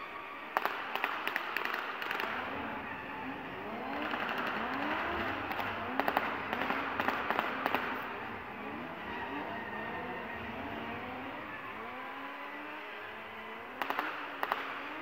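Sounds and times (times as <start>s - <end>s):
vehicle engines running: 0.0s - 15.0s
rapid bursts of sharp bangs: 0.5s - 12.8s, 13.6s - 15.0s.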